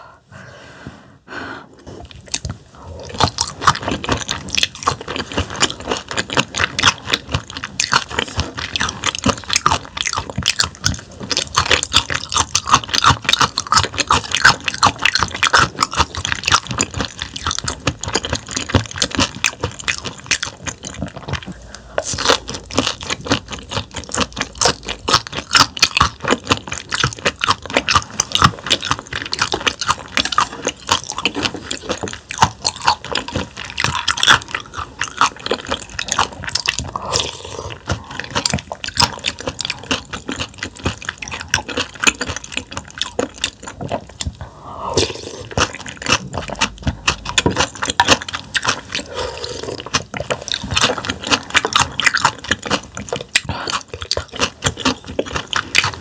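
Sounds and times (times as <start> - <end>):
chewing crunchy fish bones: 1.9 - 56.0.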